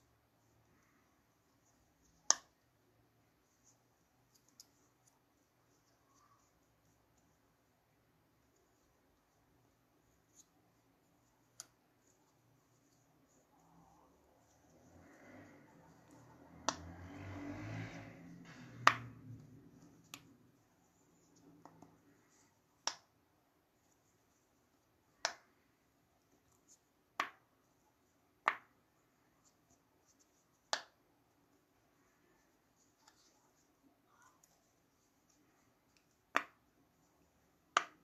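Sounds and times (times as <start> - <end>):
soft handling rustle: 0.3 - 18.5, 23.6 - 37.7.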